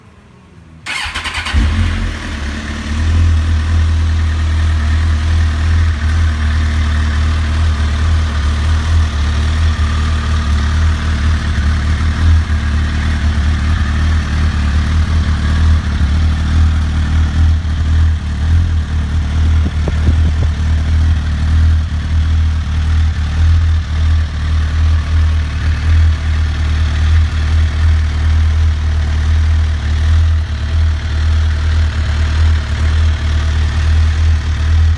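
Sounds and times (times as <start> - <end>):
motorcycle engine starting and idling: 0.8 - 34.9.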